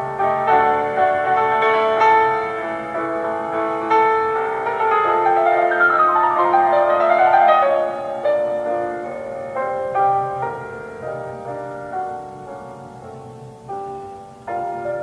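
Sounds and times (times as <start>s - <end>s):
solo classical piano: 0.0s - 15.0s.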